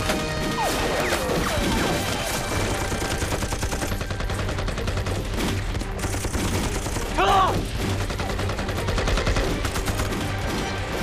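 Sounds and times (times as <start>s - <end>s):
rapid gunshots: 0.0s - 11.0s.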